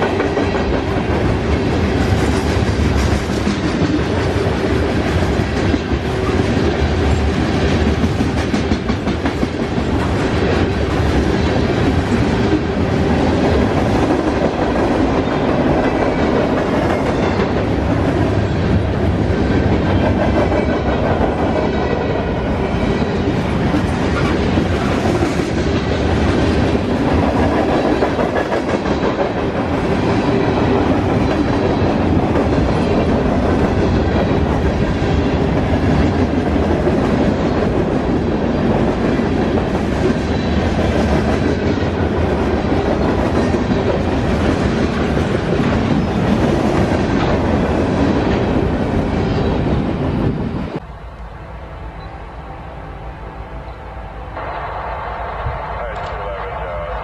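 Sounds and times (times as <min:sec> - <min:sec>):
train wheels clattering on rails: 0:00.0 - 0:50.8.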